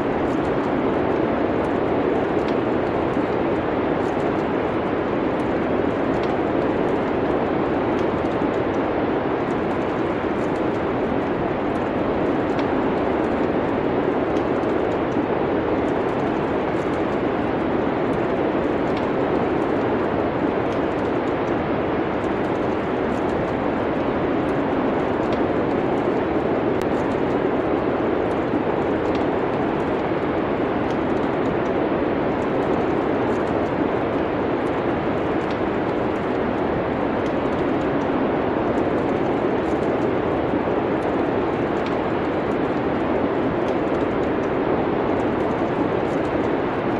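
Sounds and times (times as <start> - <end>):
burning wood crackles: 0.0 - 46.9.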